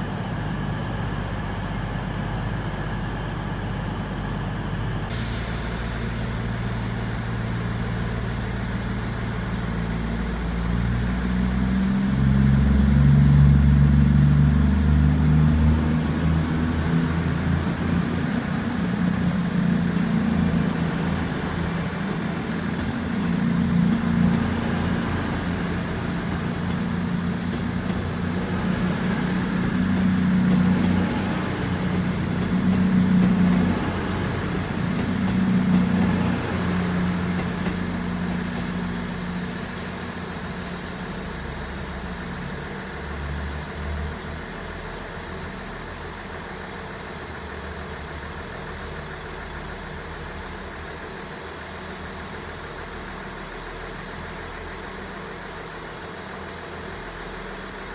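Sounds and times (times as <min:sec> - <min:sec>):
diesel train engines droning: 0:00.0 - 0:57.9.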